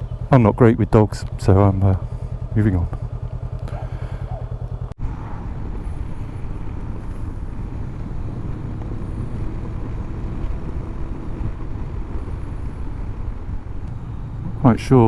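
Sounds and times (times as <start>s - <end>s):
motorcycle engine running: 0.0s - 15.0s
road noise: 0.0s - 15.0s
wind noise: 0.0s - 15.0s.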